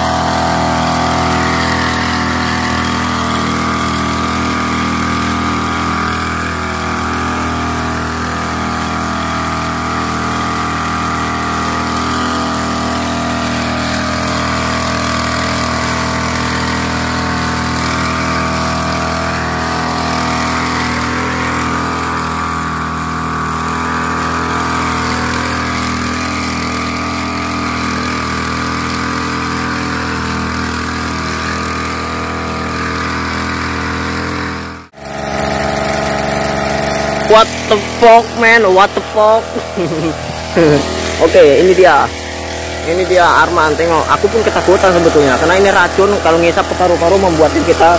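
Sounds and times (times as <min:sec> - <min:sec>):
small sprayer engine running: 0:00.0 - 0:47.9.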